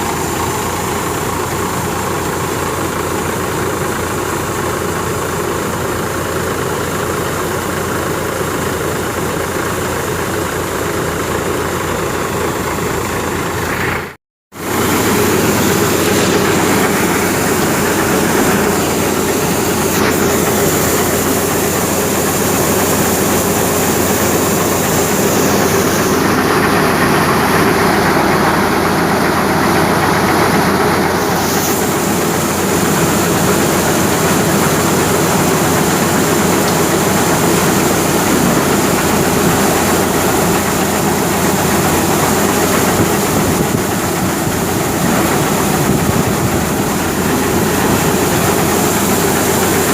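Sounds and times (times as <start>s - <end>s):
threshing machinery noise: 0.0s - 49.9s
tractor engine running: 0.0s - 49.9s.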